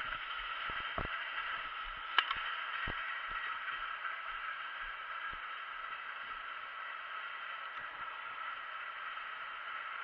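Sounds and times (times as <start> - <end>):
static-like hiss: 0.0 - 10.0.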